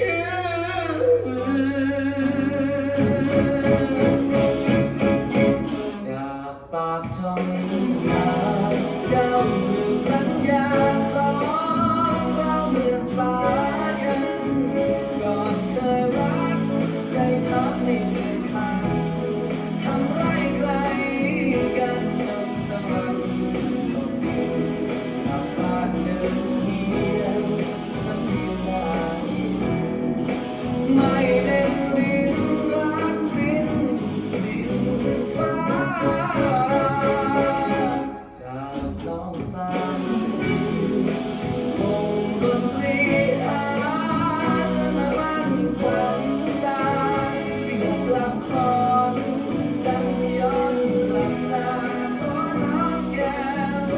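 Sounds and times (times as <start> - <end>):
guitar accompaniment: 0.0 - 53.9
person singing: 0.0 - 53.9
steady bass line: 2.4 - 6.0, 7.5 - 38.3, 39.6 - 53.9.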